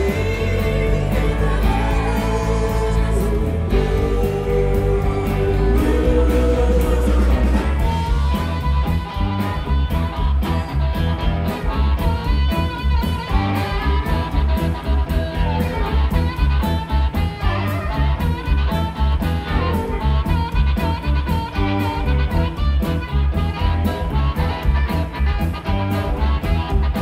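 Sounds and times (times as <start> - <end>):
bass guitar: 0.0 - 27.0
drum kit beat: 0.0 - 27.0
electric guitars: 0.0 - 27.0.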